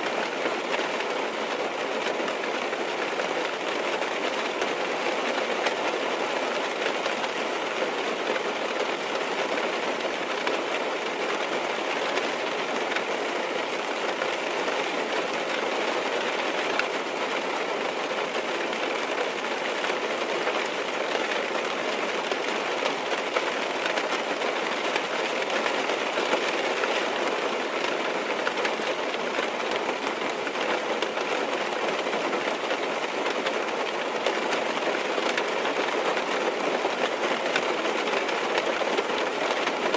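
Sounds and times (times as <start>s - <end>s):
rain on car roof: 0.0s - 39.9s.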